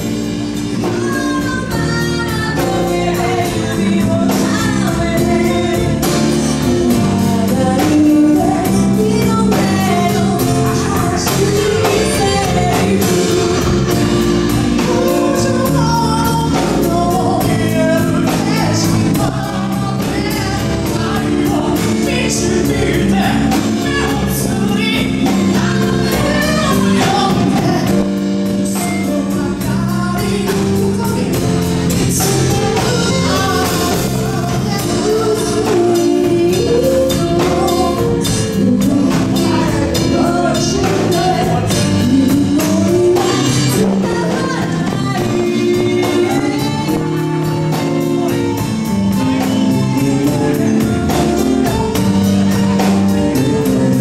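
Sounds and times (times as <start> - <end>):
bass guitar: 0.0 - 54.0
drum kit: 0.0 - 54.0
keyboard: 0.0 - 54.0
woman singing: 0.0 - 54.0
man singing: 2.2 - 28.2, 28.8 - 52.9.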